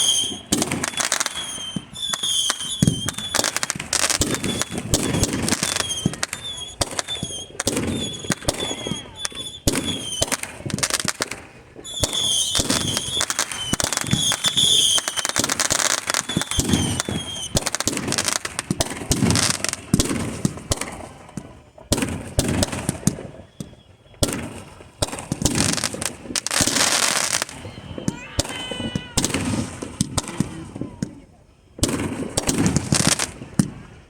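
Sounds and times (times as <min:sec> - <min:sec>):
shrill firework whistles: 0:00.0 - 0:30.9
fireworks bangs and crackling: 0:00.0 - 0:34.0.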